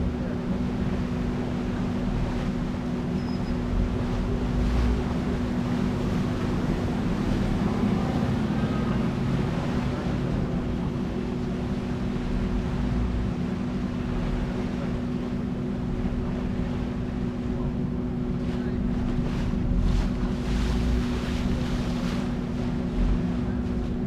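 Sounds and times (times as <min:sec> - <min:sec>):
ferry engine humming: 0:00.0 - 0:24.0
rushing water: 0:00.0 - 0:24.0
wind: 0:00.0 - 0:24.0.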